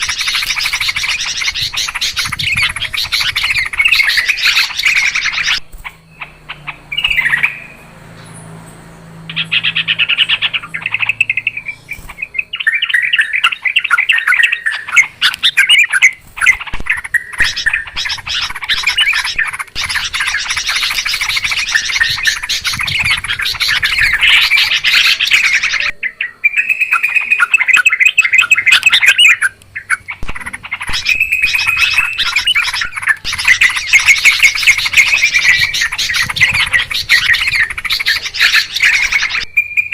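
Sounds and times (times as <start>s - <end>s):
bulbuls chattering calls: 0.0s - 39.9s.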